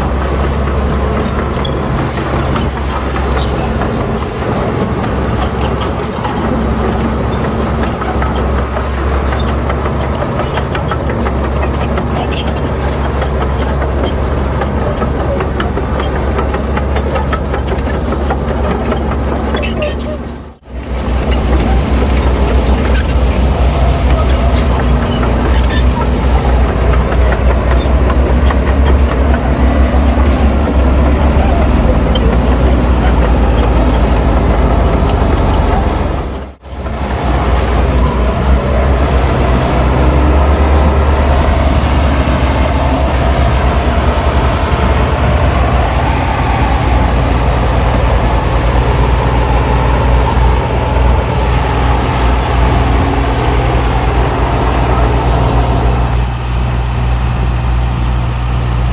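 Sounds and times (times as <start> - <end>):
diesel earthmoving machinery drone: 0.0 - 58.9.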